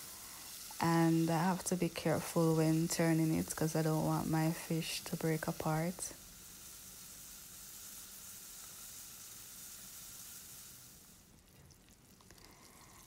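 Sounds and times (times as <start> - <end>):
fish sizzling in oil: 0.0 - 13.0
small crackles of frying: 0.0 - 13.0.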